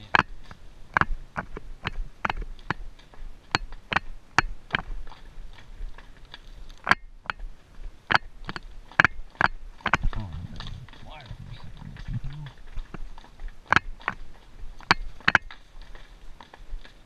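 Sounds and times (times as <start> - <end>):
horse hooves clicking on stones: 0.0 - 17.0.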